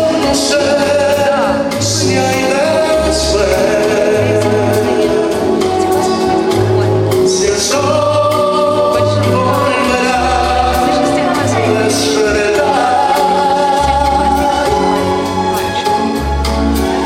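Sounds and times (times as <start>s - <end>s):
backing track with bass and beat: 0.0s - 17.0s
person singing: 0.0s - 17.0s.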